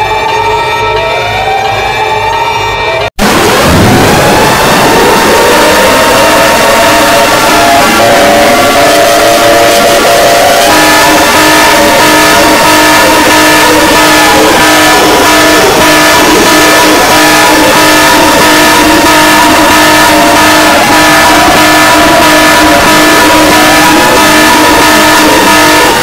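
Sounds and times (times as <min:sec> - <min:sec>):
distorted emergency alert alarm: 0:00.0 - 0:26.0
wailing siren tones: 0:00.0 - 0:26.0.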